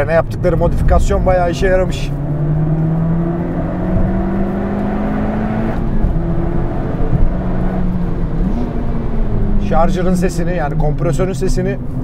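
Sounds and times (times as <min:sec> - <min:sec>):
car engine pulling hard: 0:00.0 - 0:12.0
supercharger whine: 0:00.3 - 0:12.0.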